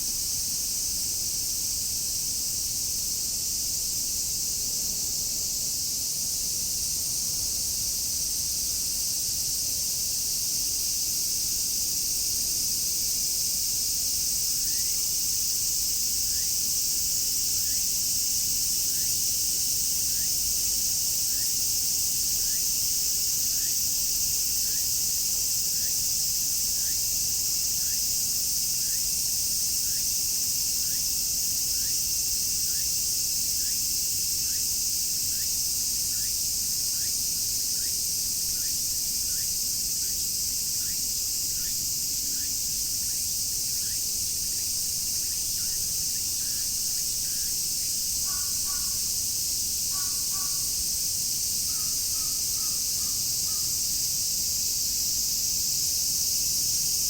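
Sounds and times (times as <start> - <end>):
cicada chorus: 0.0 - 57.0.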